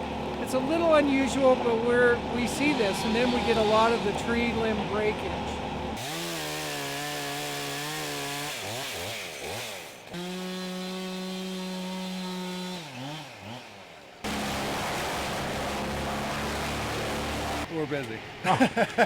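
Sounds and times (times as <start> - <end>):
chainsaw engine revving: 1.4 - 17.7.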